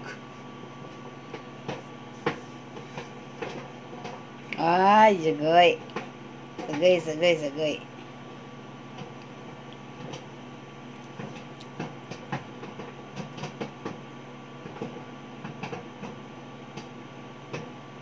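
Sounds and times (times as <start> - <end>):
microwave oven hum: 0.0 - 18.0.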